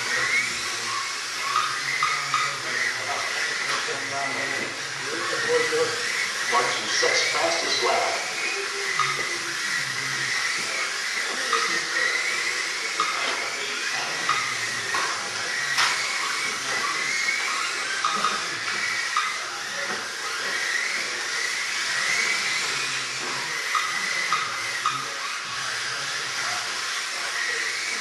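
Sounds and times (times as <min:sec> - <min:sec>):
small electric motors whining: 0:00.0 - 0:28.0.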